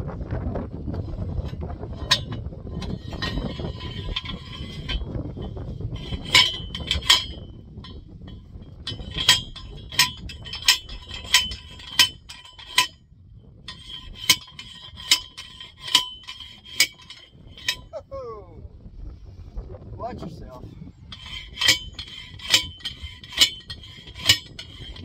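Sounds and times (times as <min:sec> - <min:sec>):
post driver clanging on metal post: 0:01.0 - 0:13.0, 0:13.7 - 0:18.0, 0:21.1 - 0:25.0.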